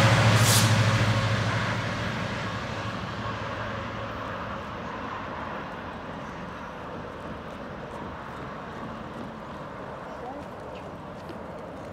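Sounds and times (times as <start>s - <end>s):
train rumble: 0.0s - 11.9s.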